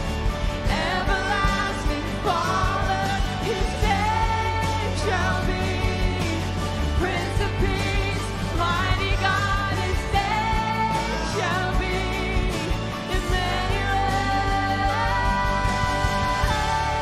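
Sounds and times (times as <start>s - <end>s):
worship band playing: 0.0s - 17.0s.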